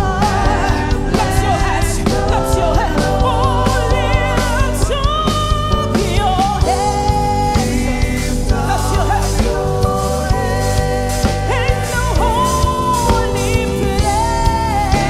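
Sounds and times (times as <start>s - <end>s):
person singing with vibrato: 0.0s - 15.0s
steady drum beat: 0.0s - 15.0s
sustained keyboard chords: 0.0s - 15.0s.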